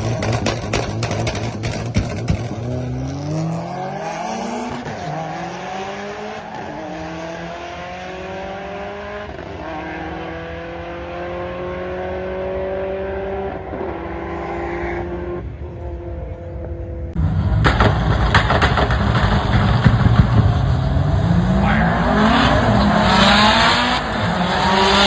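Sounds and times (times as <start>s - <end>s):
drag car engine at full throttle: 0.0s - 14.1s, 17.2s - 25.0s.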